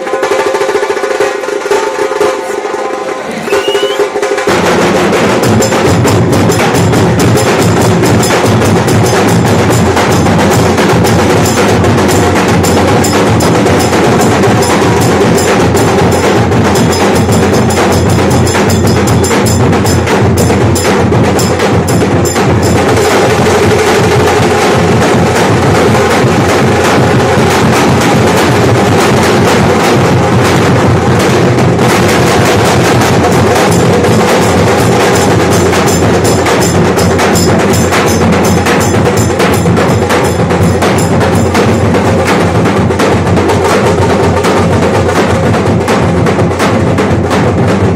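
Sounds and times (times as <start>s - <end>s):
barrel drums beaten fast: 0.0s - 47.9s.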